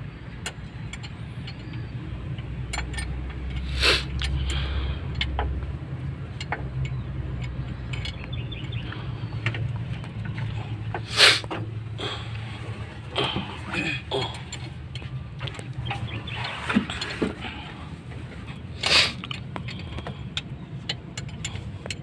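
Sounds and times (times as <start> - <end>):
metal tools clicking on engine: 0.0 - 22.0.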